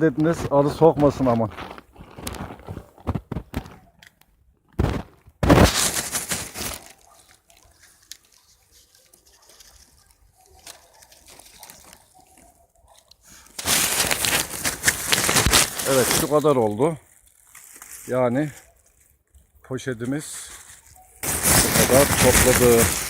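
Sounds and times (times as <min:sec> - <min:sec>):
plastic bag rustling: 0:00.0 - 0:04.0, 0:04.8 - 0:12.6, 0:13.3 - 0:19.3, 0:20.2 - 0:23.0.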